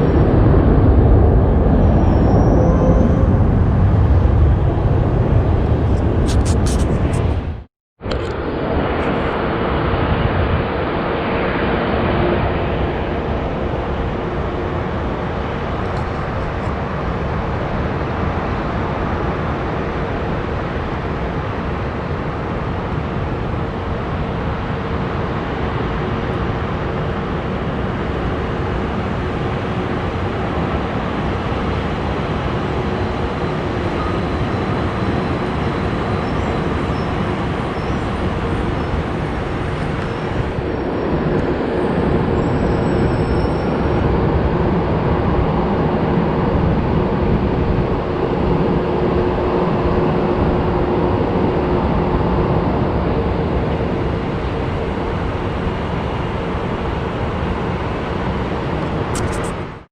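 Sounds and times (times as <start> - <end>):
engine roar: 0.0 - 59.9.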